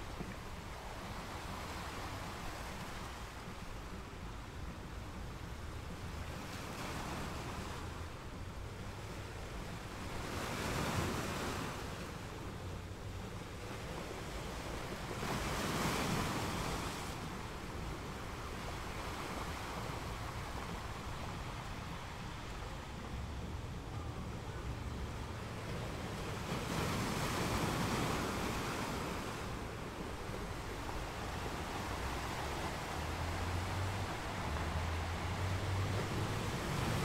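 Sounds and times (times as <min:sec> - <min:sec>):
waves breaking on beach: 0:00.0 - 0:37.0.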